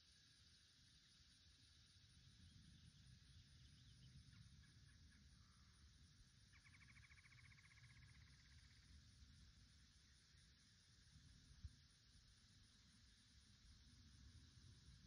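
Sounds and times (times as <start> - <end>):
faint wind rumble: 0.0 - 15.0.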